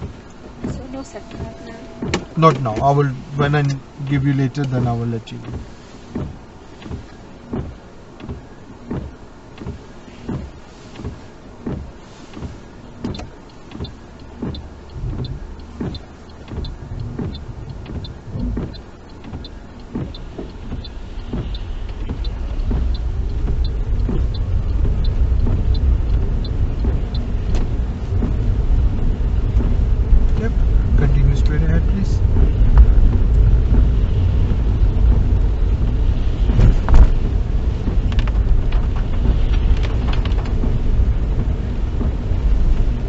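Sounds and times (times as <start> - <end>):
car engine and tyre noise: 0.0 - 43.0
windscreen wipers thumping: 0.0 - 43.0
light quick ticking: 0.3 - 43.0.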